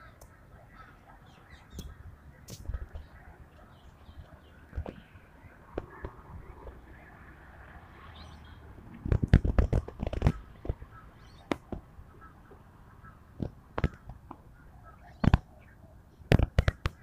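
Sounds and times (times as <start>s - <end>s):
faint bird calls: 0.0s - 8.7s, 10.0s - 17.0s.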